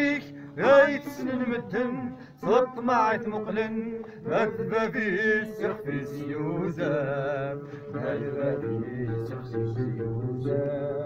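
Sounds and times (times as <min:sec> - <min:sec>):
chant-like singing: 0:00.0 - 0:11.0.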